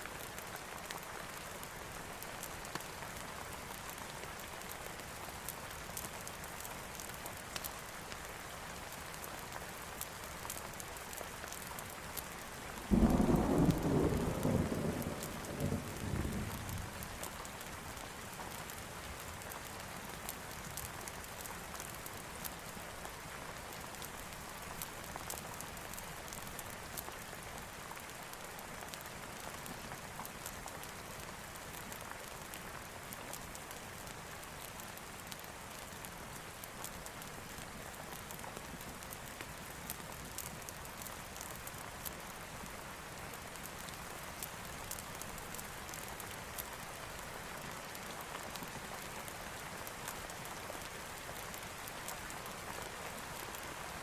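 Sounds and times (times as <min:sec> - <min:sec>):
steady rain hiss: 0:00.0 - 0:54.0
raindrops ticking: 0:09.0 - 0:54.0.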